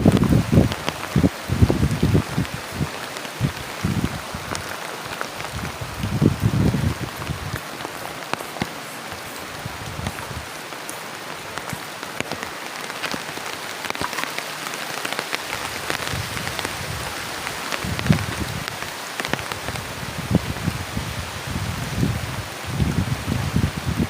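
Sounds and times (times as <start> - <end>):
rain pattering on plastic tarp: 0.0 - 24.0.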